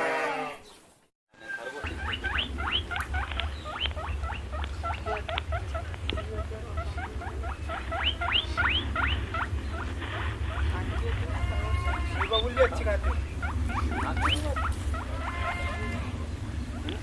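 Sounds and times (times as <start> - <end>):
small animals squeaking: 1.4 - 17.0
steady low hum: 1.8 - 17.0.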